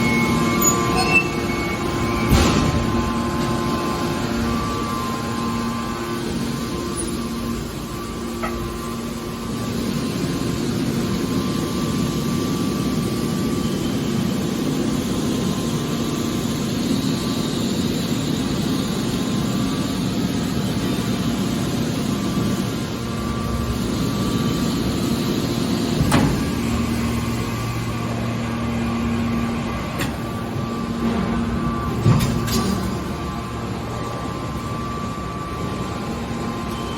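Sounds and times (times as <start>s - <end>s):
hydraulic baler machine hum: 0.0s - 36.9s.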